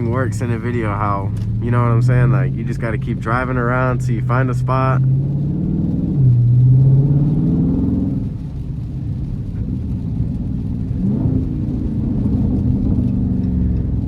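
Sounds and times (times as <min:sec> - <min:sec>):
car engine heard from cabin: 0:00.0 - 0:14.0.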